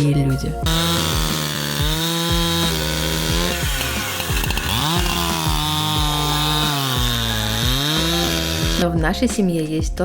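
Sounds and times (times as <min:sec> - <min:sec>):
chainsaw cutting wood: 0:00.6 - 0:08.9.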